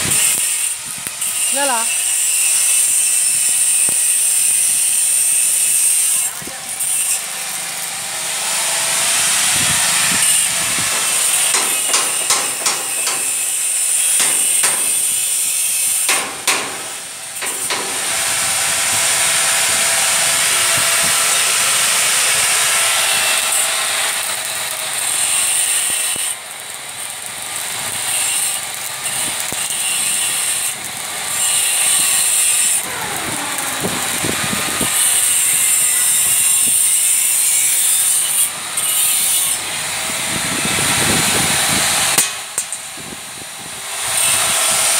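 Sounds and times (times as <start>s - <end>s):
welding arc crackling and sizzling: 0.0s - 44.9s.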